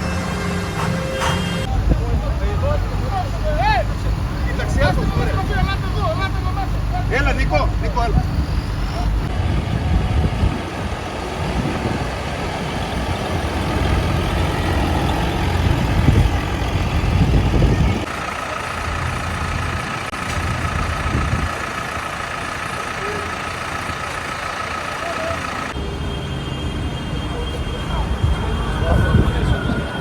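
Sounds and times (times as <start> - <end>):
diesel engines rumbling: 0.0 - 30.0.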